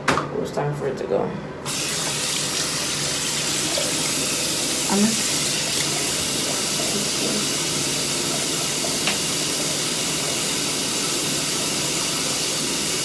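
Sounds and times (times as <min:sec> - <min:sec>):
water running from tap: 0:01.7 - 0:13.0.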